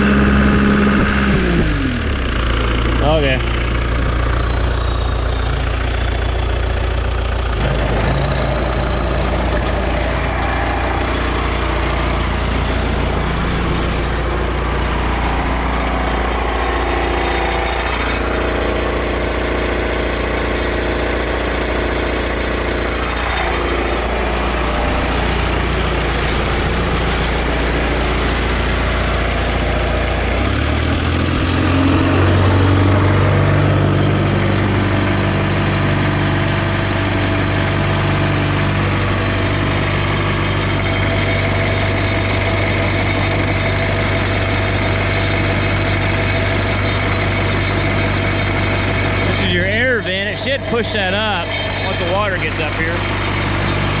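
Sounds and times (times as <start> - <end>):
stationary engine running: 0.0 - 54.0.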